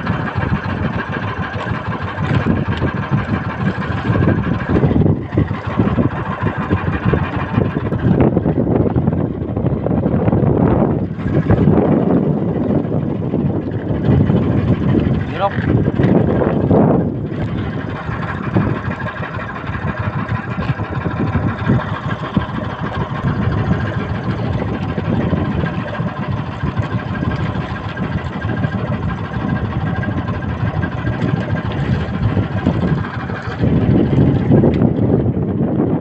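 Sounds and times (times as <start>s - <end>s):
boat engine idling: 0.0s - 36.0s.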